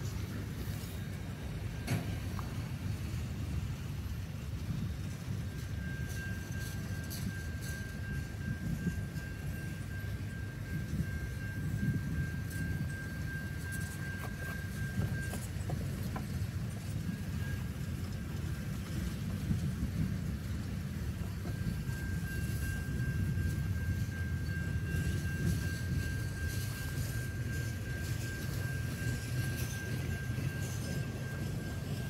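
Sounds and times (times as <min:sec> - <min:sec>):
freight train cars rumbling: 0:00.0 - 0:32.0.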